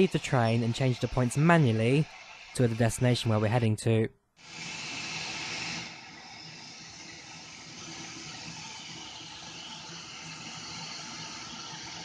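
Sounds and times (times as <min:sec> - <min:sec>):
steam locomotive hissing: 0:00.0 - 0:03.6, 0:04.4 - 0:12.0.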